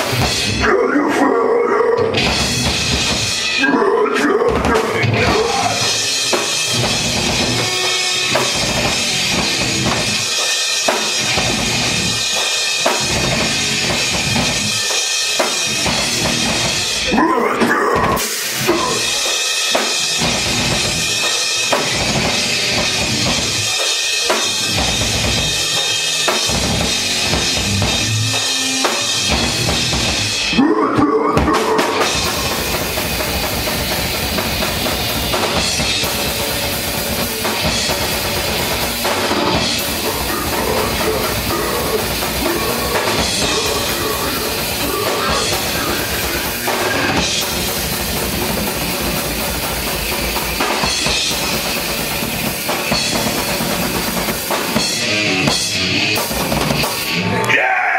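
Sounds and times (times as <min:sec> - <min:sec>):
live heavy metal band: 0:00.0 - 0:57.9.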